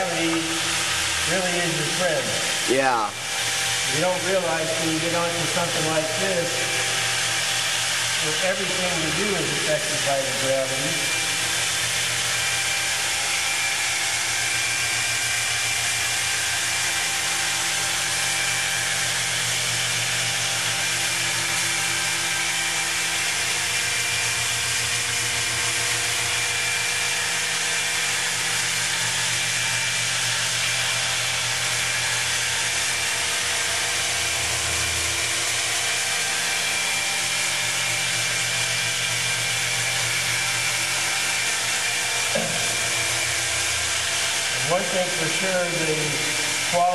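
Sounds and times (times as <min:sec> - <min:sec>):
wet polisher motor running: 0:00.0 - 0:46.9.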